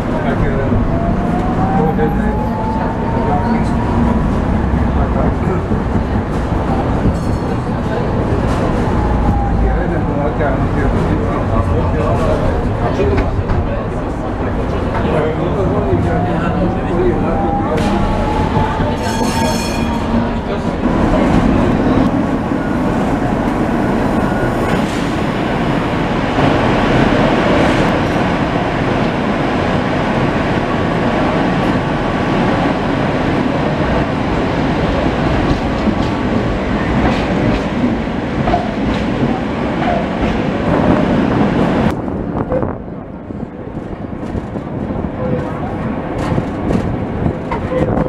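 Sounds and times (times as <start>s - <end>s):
tram wheels on rails: 0.0s - 48.0s.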